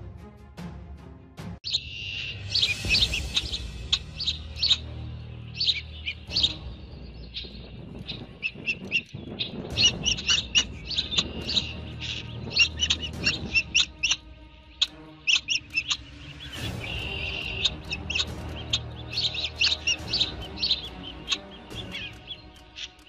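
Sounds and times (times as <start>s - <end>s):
small birds chirping: 1.6s - 23.0s.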